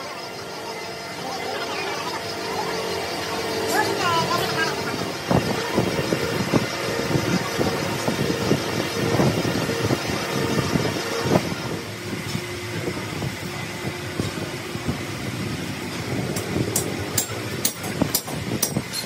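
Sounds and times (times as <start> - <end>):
grinding machine hum: 0.0 - 19.0.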